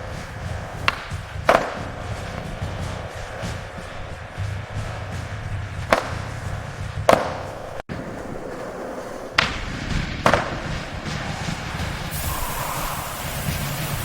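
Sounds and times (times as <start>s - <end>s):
sharp clacks: 0.0s - 14.0s.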